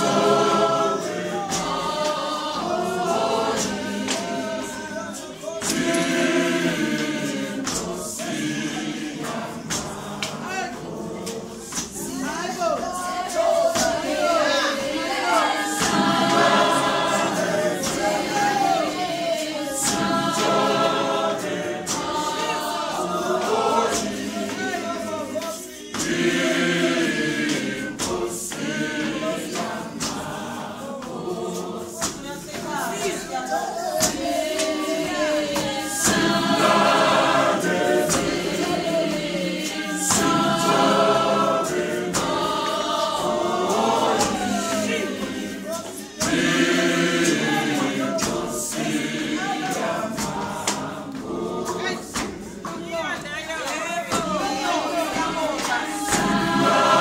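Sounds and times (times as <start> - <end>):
congregation singing a hymn: 0.0 - 57.0
sharp beats keeping time: 0.0 - 57.0.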